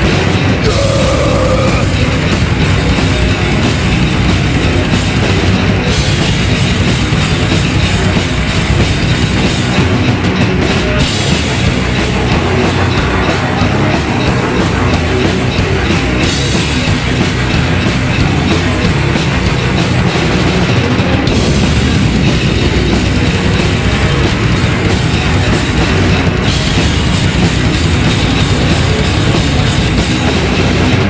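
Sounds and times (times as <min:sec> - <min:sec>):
heavy metal band playing: 0:00.0 - 0:31.0.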